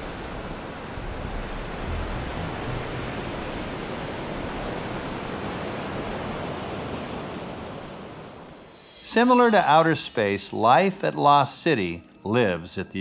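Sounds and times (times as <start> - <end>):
ocean waves rushing: 0.0 - 11.4.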